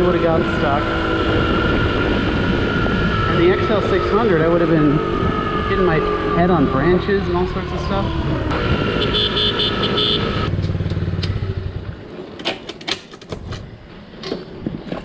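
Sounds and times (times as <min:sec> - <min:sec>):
small motorcycle engine running: 0:00.0 - 0:12.1.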